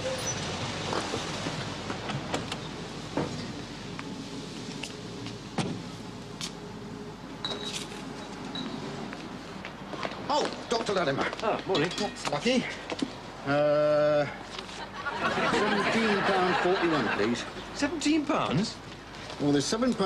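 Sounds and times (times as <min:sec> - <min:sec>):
street traffic hiss: 0:00.0 - 0:20.0.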